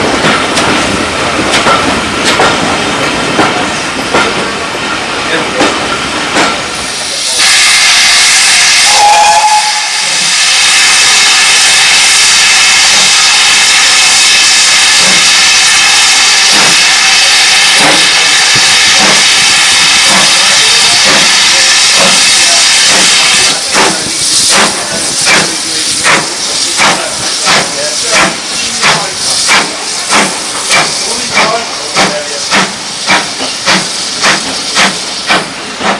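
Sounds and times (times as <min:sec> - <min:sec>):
steam locomotive hissing: 0:00.0 - 0:35.9.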